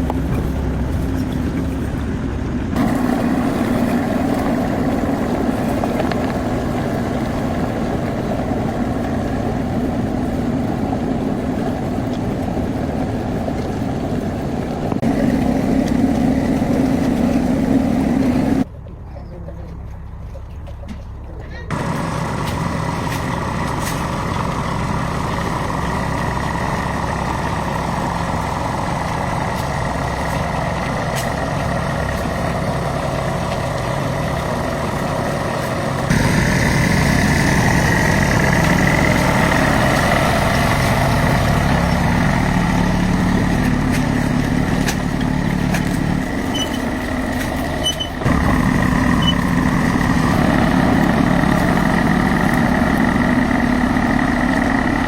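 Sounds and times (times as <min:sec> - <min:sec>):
truck engine running: 0:00.0 - 0:18.7, 0:19.4 - 0:55.0.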